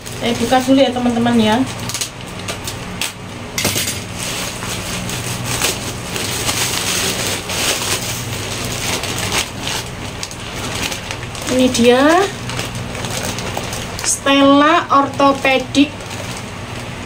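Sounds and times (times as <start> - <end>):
plastic bag rustling: 0.0 - 3.1, 3.8 - 17.0.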